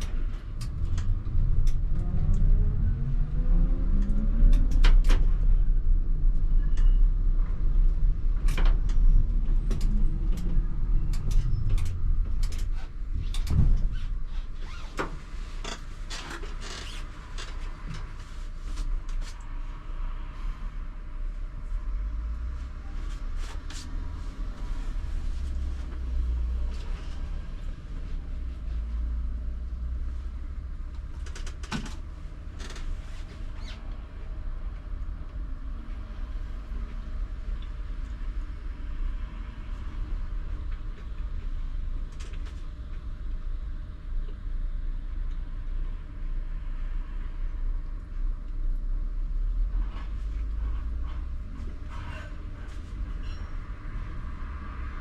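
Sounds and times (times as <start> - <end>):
tram running gear rumble: 0.0 - 19.2, 24.0 - 45.2, 49.4 - 55.0.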